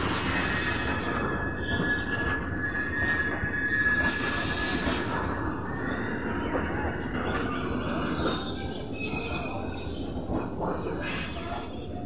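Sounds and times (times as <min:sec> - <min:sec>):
train wheels rumbling and rattling: 0:00.0 - 0:12.0
high wheel squeal: 0:00.2 - 0:12.0.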